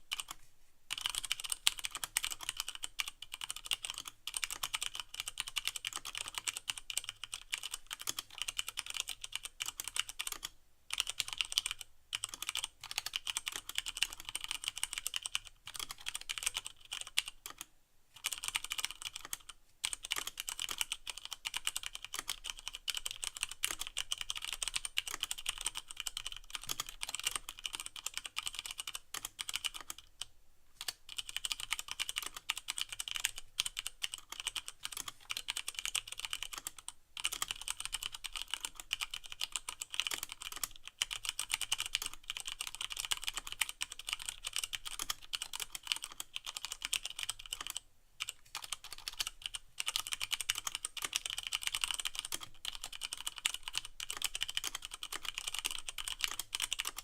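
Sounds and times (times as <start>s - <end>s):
mechanical keyboard typing: 0.1s - 57.0s.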